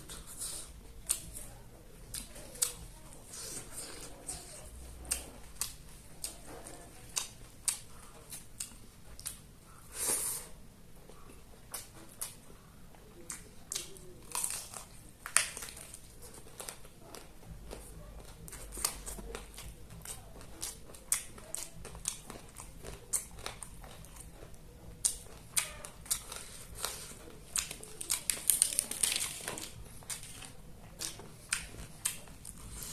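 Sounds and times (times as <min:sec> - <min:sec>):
person chewing and crunching: 0:00.0 - 0:10.5, 0:11.1 - 0:12.5, 0:13.2 - 0:32.9.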